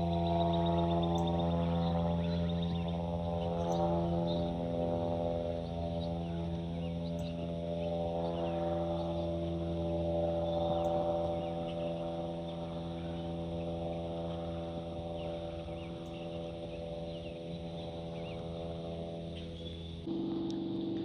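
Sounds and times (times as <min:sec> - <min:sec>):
small birds chirping: 0:00.0 - 0:20.1
aircraft engine drone: 0:00.0 - 0:21.0.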